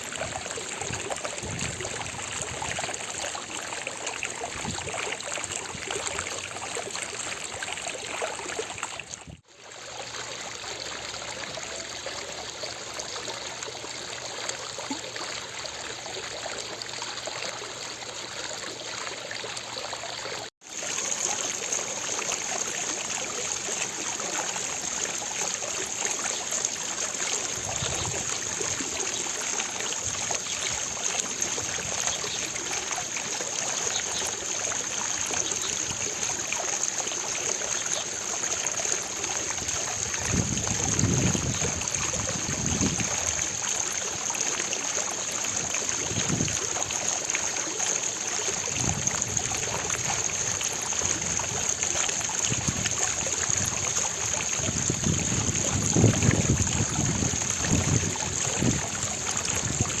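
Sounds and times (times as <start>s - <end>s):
water fountain splashing: 0.0s - 60.0s.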